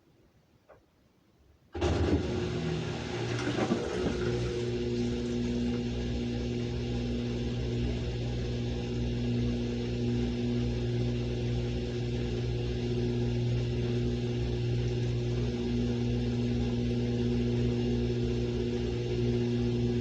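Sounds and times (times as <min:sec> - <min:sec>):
washing machine motor hum: 0:01.7 - 0:20.0.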